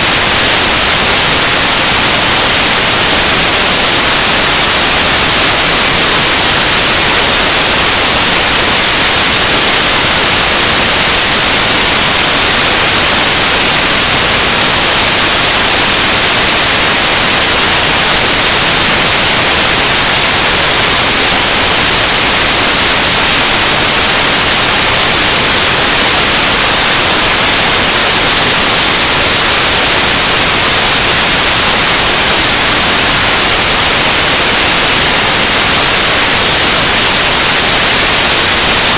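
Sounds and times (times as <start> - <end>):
harsh static noise music: 0.0 - 38.9.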